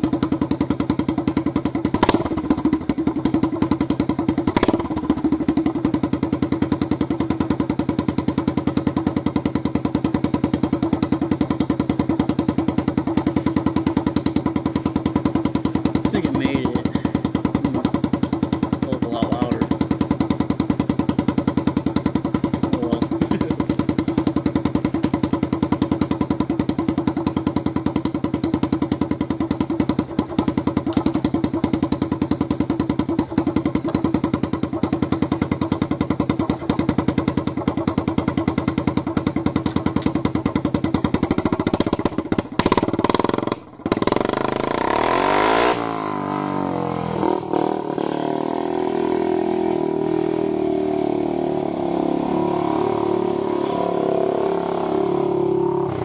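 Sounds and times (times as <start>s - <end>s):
small engine popping: 0.0s - 48.2s.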